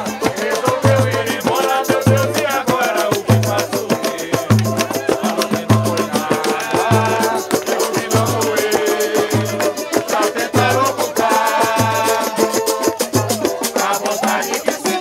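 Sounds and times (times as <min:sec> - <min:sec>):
samba hand drums: 0:00.0 - 0:15.0
voices singing: 0:00.0 - 0:15.0.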